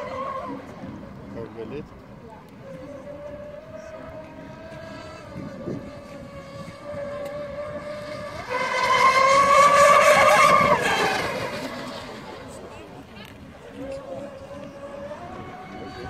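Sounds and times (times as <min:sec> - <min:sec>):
model speedboat motor whining: 0:00.0 - 0:16.0.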